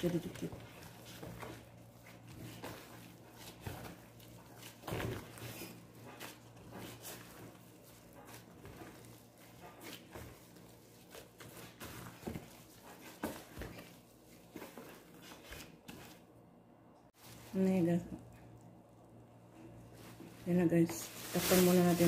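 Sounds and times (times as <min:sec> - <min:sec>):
dough squelching and slapping: 0:00.0 - 0:16.3, 0:20.0 - 0:22.0.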